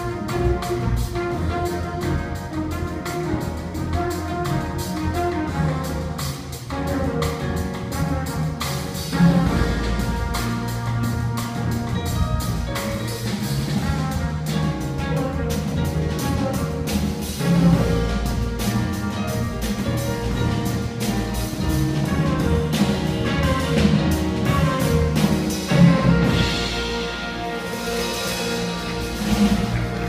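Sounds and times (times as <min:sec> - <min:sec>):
drum and cymbal strokes: 0:00.0 - 0:30.0
jazz band playing: 0:00.0 - 0:30.0
trumpets: 0:00.0 - 0:30.0.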